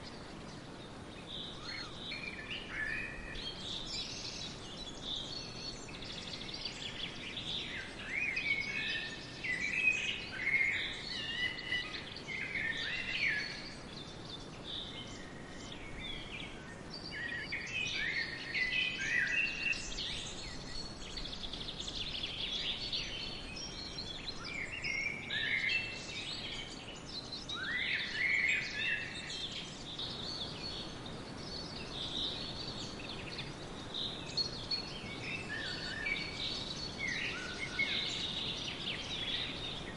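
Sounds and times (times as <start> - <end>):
outdoor ambience hiss: 0.0 - 39.9
songbirds singing and chirping: 0.0 - 39.9.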